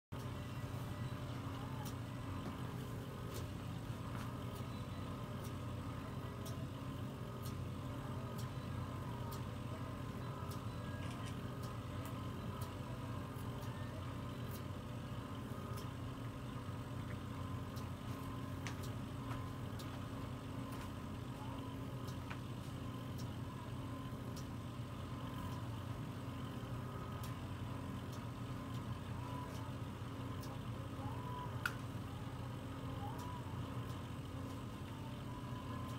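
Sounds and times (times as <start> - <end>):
vacuum pump humming: 0.1 - 35.9.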